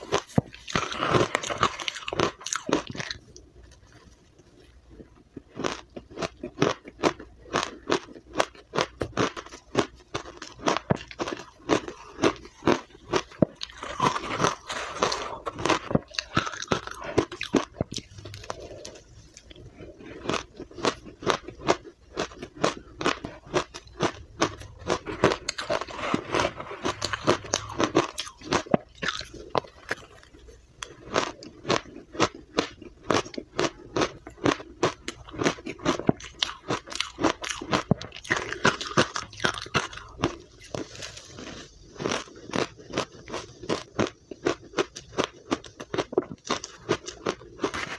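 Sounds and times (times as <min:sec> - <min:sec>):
ice being chewed with crisp crunches: 0:00.0 - 0:47.9.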